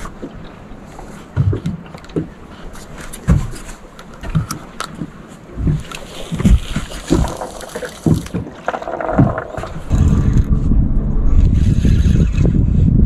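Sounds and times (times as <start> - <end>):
soft wash of water: 0.0 - 12.4
waves slapping boat hull: 0.0 - 12.5.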